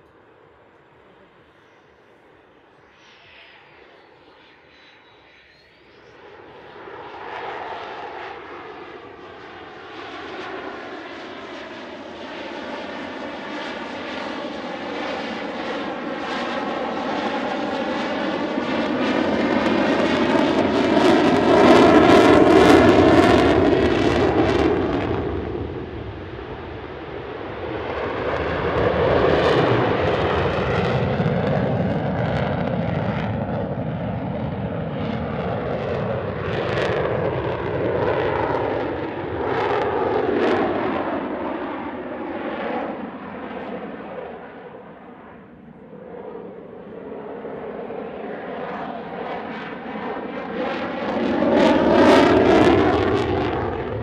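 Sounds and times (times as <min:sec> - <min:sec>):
jet engine passing overhead: 0:00.0 - 0:54.0.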